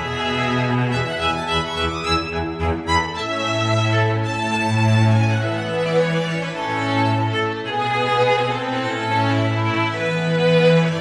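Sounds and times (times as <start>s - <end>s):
slow bowed strings music: 0.0s - 11.0s.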